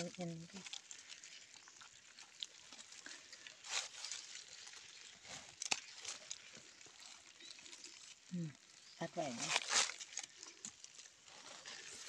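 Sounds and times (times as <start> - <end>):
mesh bag rustling: 0.0 - 12.0.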